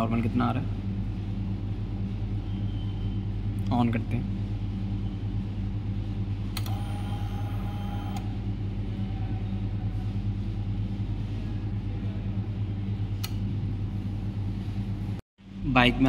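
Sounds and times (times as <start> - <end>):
steady low hum: 0.0 - 16.0
fuel pump whirring: 0.7 - 15.0.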